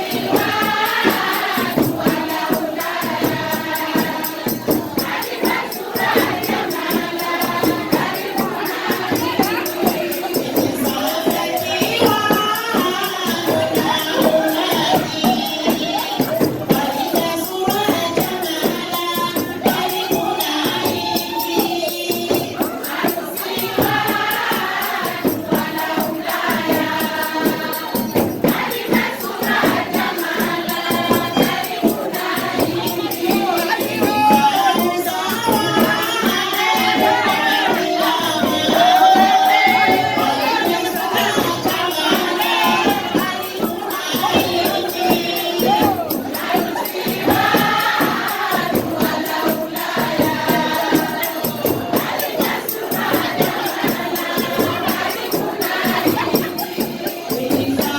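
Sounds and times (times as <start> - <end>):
crowd voices: 0.0 - 57.9
tambourine-like jingle drum: 0.0 - 57.9
voices singing together: 0.0 - 57.9.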